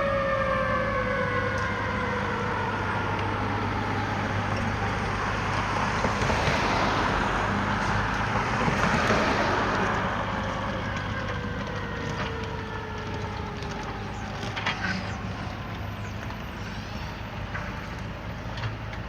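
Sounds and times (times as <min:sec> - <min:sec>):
fire engine driving past: 0:00.0 - 0:19.0.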